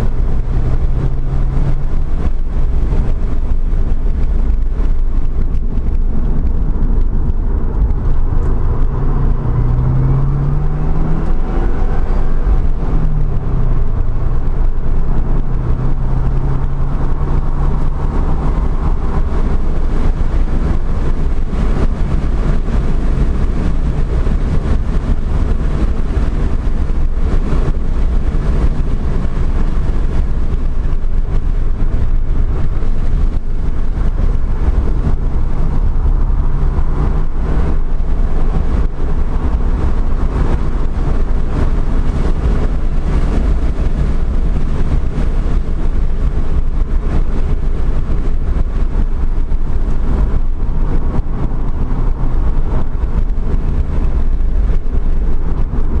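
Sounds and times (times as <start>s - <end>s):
car engine running hard: 0.0s - 56.0s
road and wind noise: 0.0s - 56.0s.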